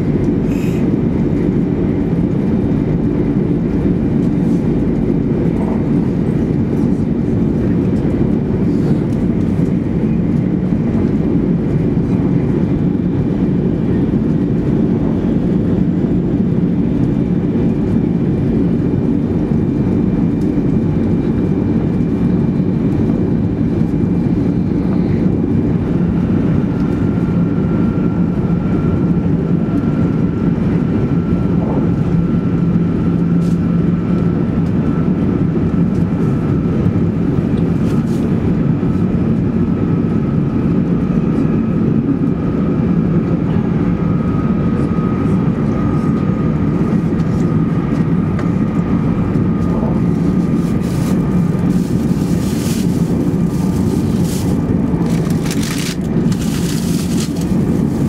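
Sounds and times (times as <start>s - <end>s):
train interior low rumble: 0.0s - 42.4s, 43.2s - 58.0s.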